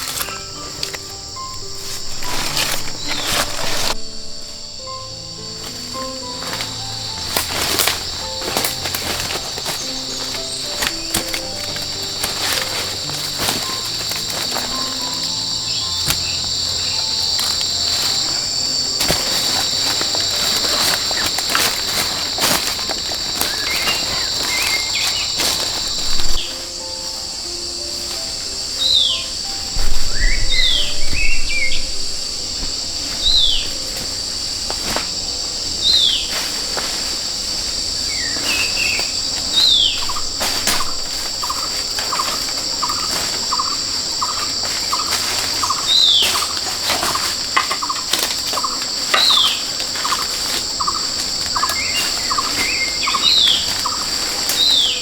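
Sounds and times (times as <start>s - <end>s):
bird chirping: 0.0s - 36.4s, 37.4s - 55.0s
insects droning: 0.0s - 55.0s
regular pulsed note: 0.0s - 55.0s.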